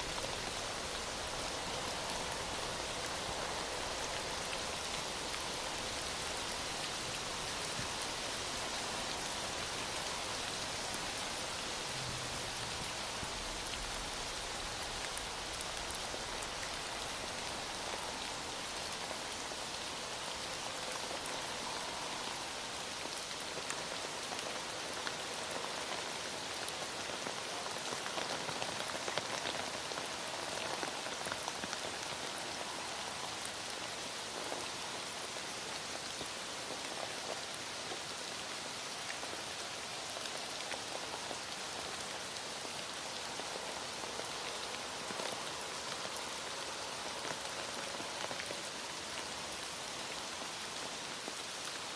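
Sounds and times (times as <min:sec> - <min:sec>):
heavy rain: 0:00.0 - 0:51.9.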